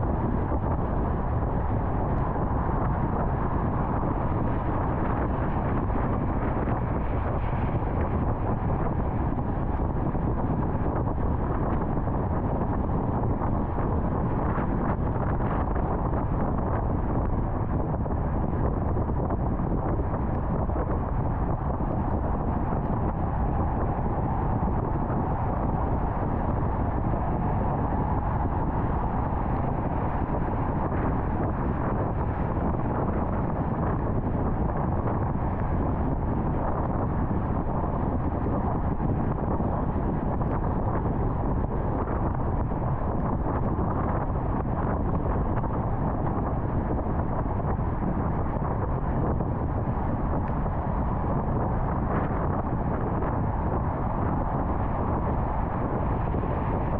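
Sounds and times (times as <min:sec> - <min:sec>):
car road noise at highway speed: 0:00.0 - 0:56.9.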